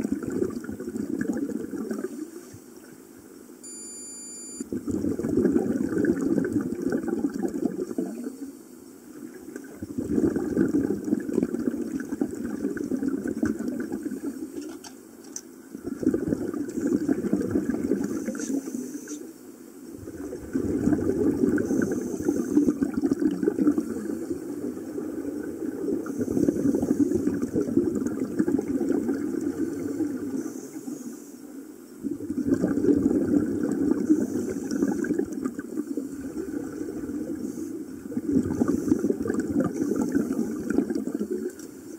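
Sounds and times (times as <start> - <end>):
underwater exhaust bubbles rushing: 0.0 - 2.2, 4.7 - 8.4, 9.2 - 14.4, 15.8 - 18.8, 19.9 - 30.6, 32.0 - 41.6.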